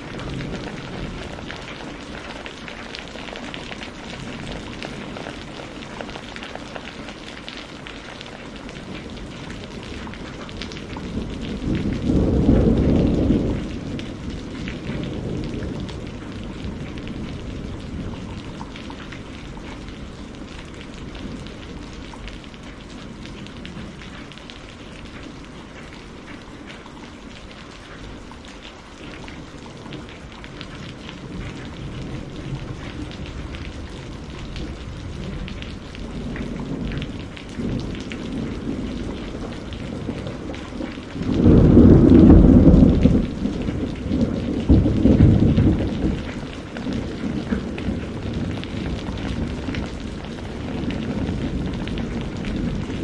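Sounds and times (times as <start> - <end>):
thunder rumbling: 0.0 - 25.9, 29.1 - 53.0
steady rain: 0.0 - 53.0.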